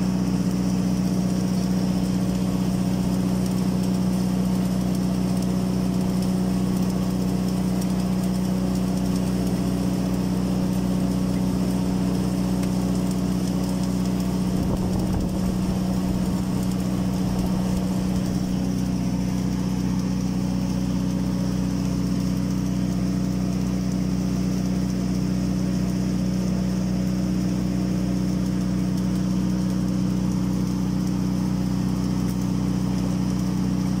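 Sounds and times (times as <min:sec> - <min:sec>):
welding machine humming: 0:00.0 - 0:34.0.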